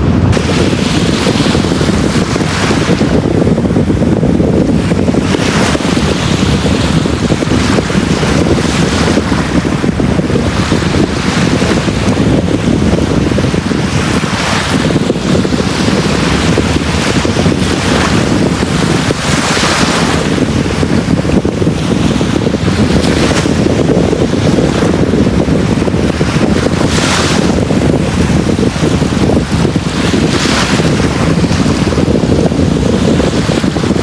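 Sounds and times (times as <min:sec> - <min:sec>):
low rumble of surf: 0:00.0 - 0:34.0.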